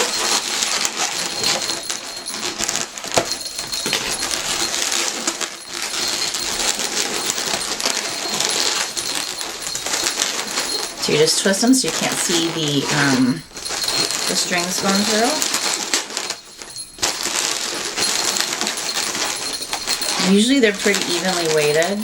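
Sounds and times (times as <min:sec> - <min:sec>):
balloons squeaking and rubbing: 0:00.0 - 0:22.0
small clicks and rustles: 0:00.0 - 0:22.0.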